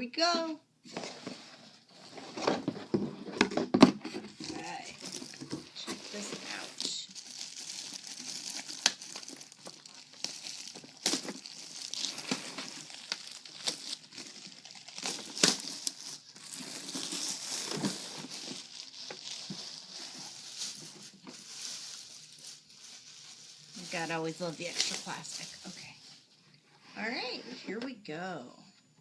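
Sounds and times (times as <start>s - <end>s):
plastic packaging crinkling: 0.9s - 26.3s.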